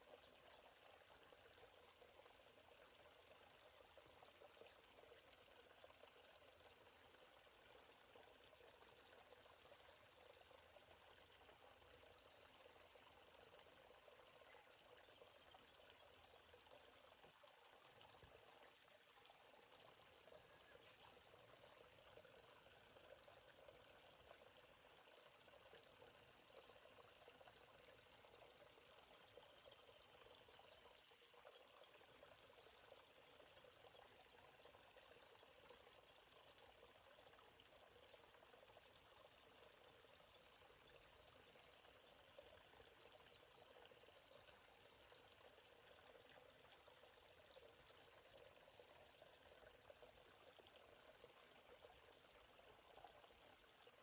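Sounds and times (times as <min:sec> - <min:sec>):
high-pitched insect chorus: 0:00.0 - 0:54.0
stream water trickling: 0:00.0 - 0:54.0.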